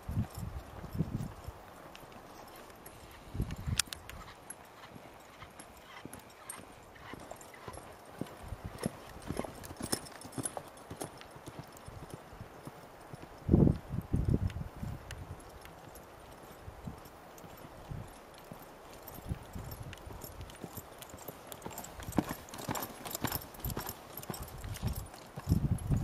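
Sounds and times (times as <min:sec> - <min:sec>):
hoofbeats on sand: 0:00.0 - 0:26.0.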